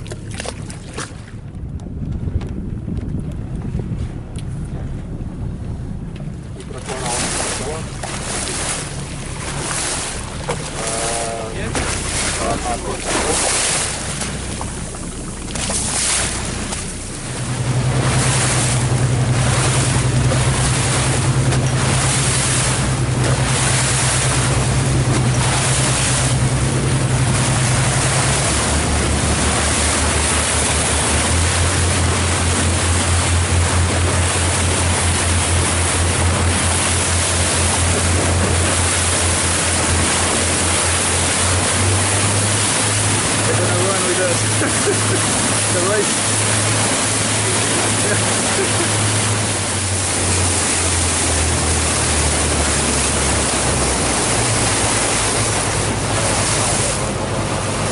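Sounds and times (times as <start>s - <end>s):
boat motor humming: 0.0s - 57.9s
water splashing along hull: 0.0s - 57.9s
wind on microphone: 0.0s - 57.9s.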